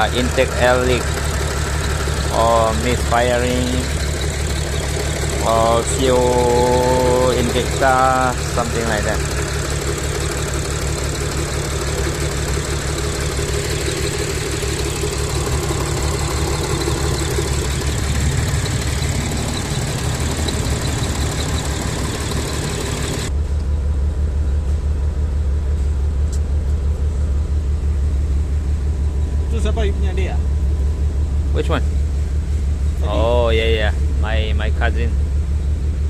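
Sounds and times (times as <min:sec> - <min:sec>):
car engine idling rough: 0:00.0 - 0:36.0.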